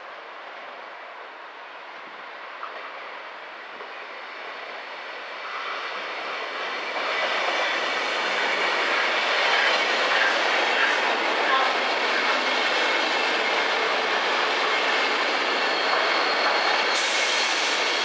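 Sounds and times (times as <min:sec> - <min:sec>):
train rolling noise: 0:00.0 - 0:18.0.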